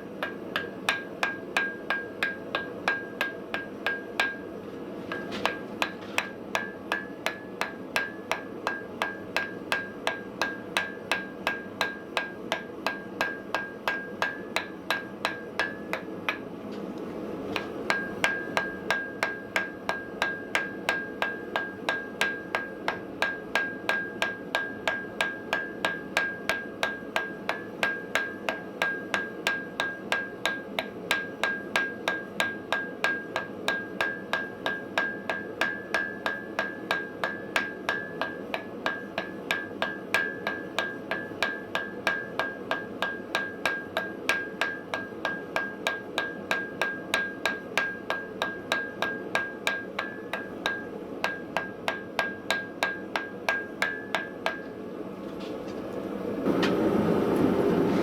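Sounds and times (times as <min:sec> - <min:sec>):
hammer ringing on anvil: 0:00.2 - 0:04.5, 0:05.1 - 0:16.5, 0:17.9 - 0:54.8.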